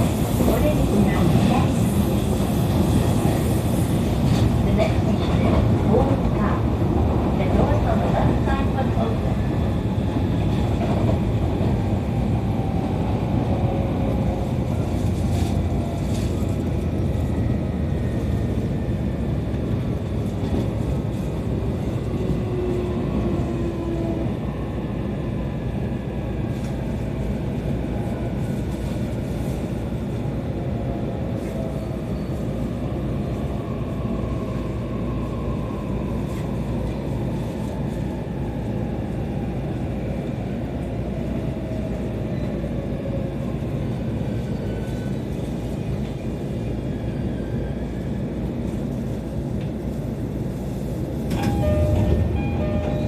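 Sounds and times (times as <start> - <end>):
electric train rumble: 0.0 - 53.0.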